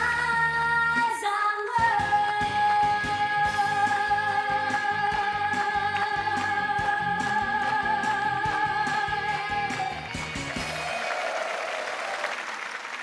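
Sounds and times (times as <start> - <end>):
pop band backing with beat: 0.0 - 10.9.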